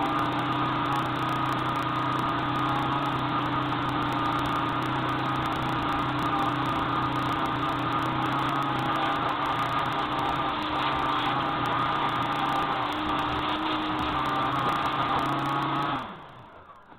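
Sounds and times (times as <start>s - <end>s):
small motor whirring: 0.0s - 16.6s.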